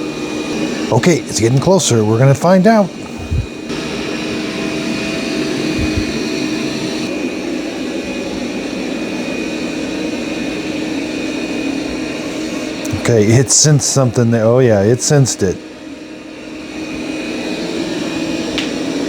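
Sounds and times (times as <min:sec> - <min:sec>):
robot vacuum suction fan rushing: 0:00.0 - 0:19.0.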